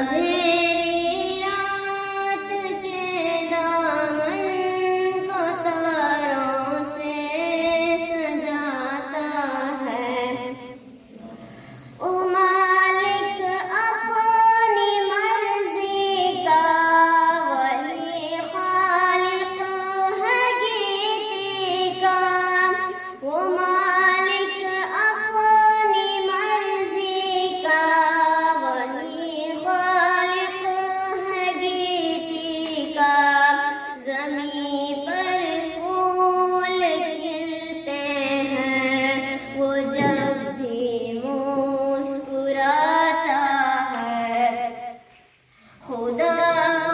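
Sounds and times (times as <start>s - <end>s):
child singing devotional song: 0.0s - 46.9s.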